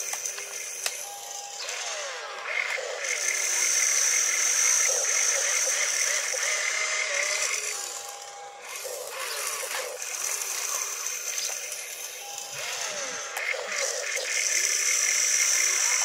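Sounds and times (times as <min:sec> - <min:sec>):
toy electric motors whining: 0:00.0 - 0:16.0.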